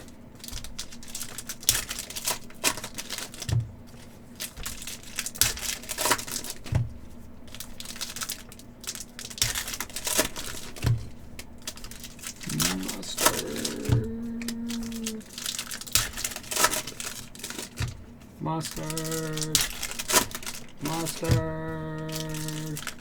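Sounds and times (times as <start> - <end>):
foil wrappers crinkling and tearing: 0.0 - 23.0.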